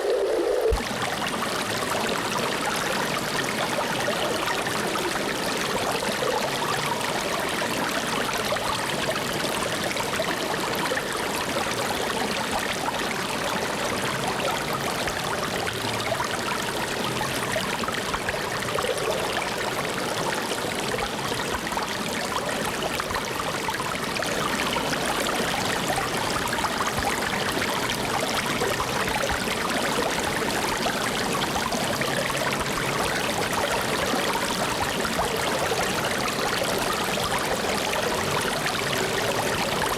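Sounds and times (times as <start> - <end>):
water flowing steadily: 0.0 - 39.9.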